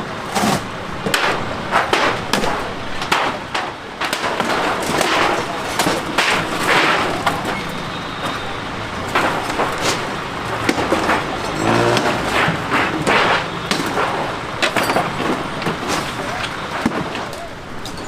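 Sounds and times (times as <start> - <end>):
hissing street din: 0.0 - 18.0
debris clattering and crashing: 0.2 - 18.0.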